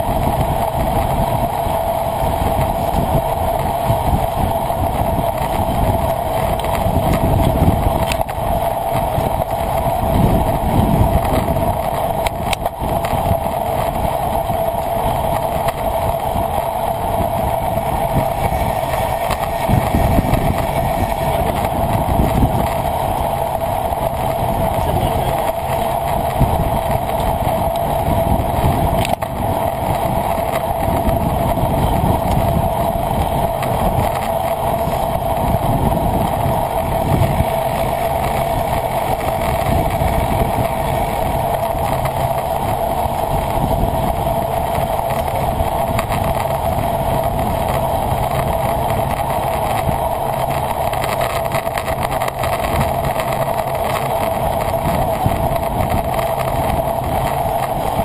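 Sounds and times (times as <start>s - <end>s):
constant hum: 0.0s - 58.0s
wind buffeting microphone: 0.0s - 58.0s.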